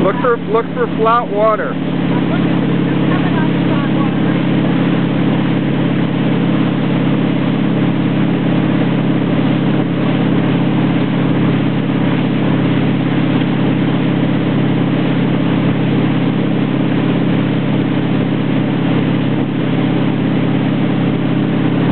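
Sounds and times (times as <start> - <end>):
boat engine running: 0.0 - 21.9
water rushing in wake: 0.0 - 21.9.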